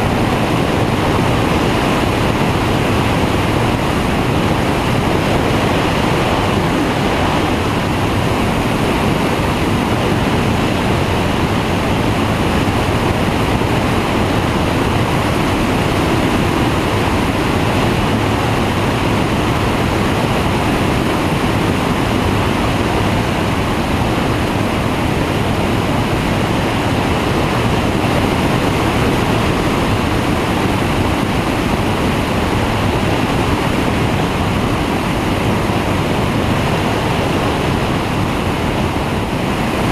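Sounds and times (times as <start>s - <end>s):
microlight engine and propeller: 0.0s - 39.9s
wind rushing over microphone: 0.0s - 39.9s.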